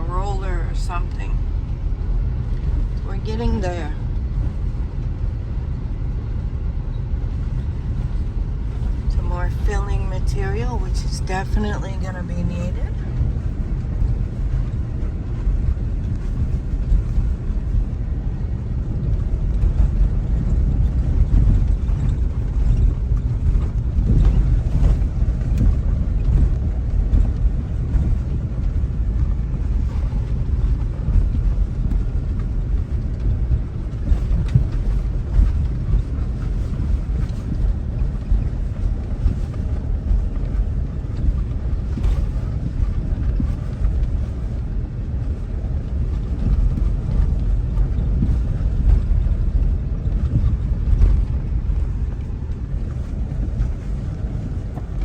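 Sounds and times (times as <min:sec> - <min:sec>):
car engine and tyre noise: 0:00.0 - 0:55.0
wind on microphone: 0:00.0 - 0:55.0.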